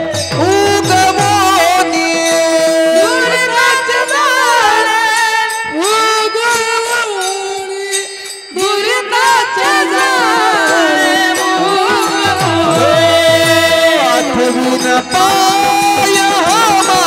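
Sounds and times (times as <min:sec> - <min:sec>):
jingling cymbals: 0:00.0 - 0:17.0
ornamented devotional melody: 0:00.0 - 0:17.0.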